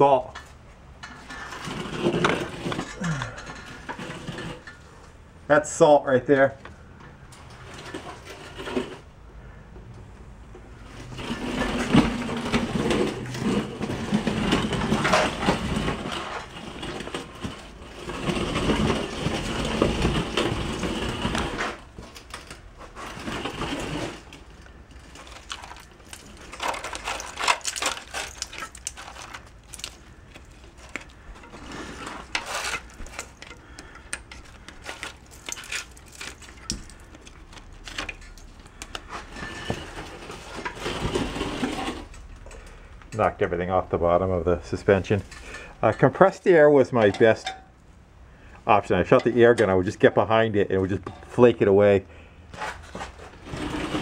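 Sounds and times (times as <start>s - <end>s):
rust flakes crunching and clattering: 0.0s - 6.6s, 10.8s - 47.7s, 48.6s - 54.0s.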